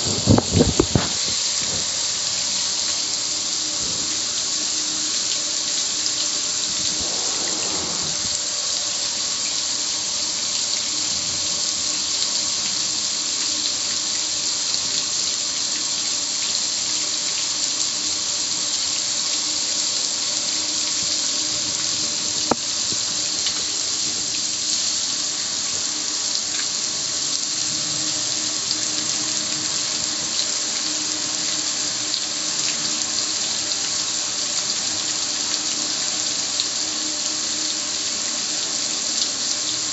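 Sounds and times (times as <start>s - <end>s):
hose spraying water on metal: 0.0s - 39.9s.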